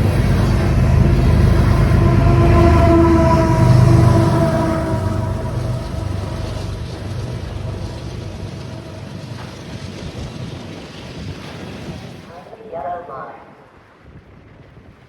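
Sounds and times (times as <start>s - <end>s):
train running rumble: 0.0s - 12.2s
wind buffeting microphone: 0.0s - 12.4s, 13.6s - 15.0s.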